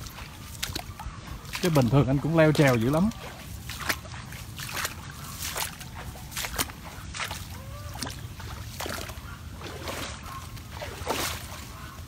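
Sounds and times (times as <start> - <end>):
person wading through water: 0.0 - 12.0
water sloshing and splashing: 0.0 - 12.0.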